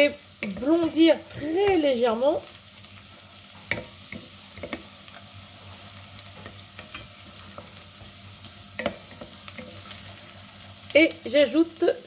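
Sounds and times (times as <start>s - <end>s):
shallot sizzling in butter: 0.0s - 12.0s.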